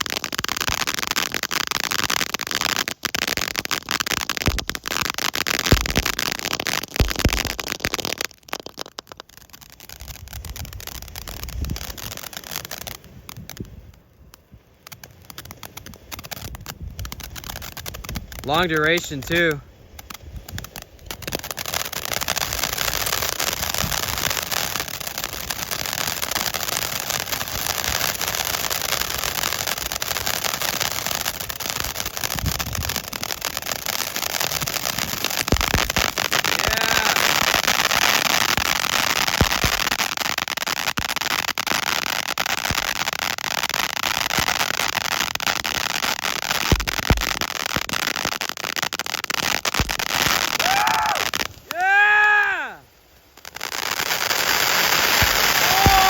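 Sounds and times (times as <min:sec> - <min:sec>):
firework fountain hissing and crackling: 0:00.0 - 0:56.0.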